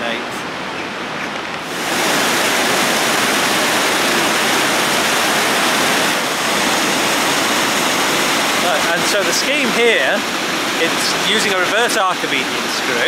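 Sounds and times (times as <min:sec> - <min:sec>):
river water pouring over weir: 0:01.6 - 0:13.0.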